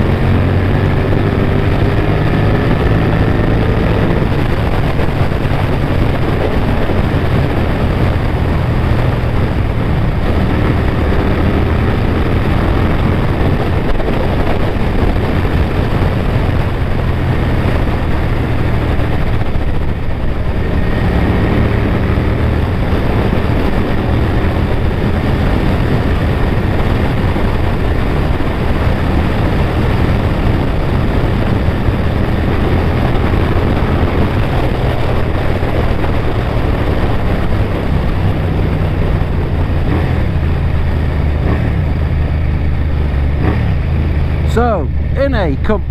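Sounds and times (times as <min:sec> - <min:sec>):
motorcycle engine running hard: 0:00.0 - 0:45.9.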